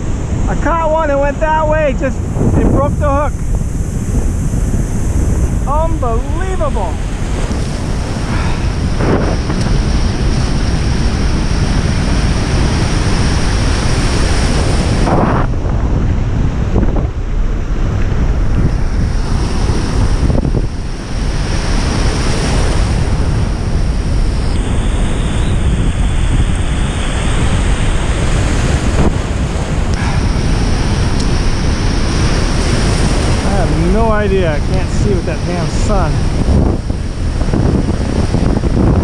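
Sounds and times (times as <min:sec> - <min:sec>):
surf waves breaking: 0:00.0 - 0:39.0
wind buffeting microphone: 0:00.0 - 0:39.0.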